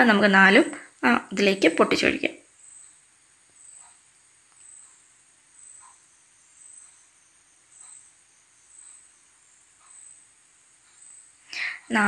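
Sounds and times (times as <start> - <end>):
steady high hum: 0.0 - 12.0
cricket chirping: 1.7 - 12.0.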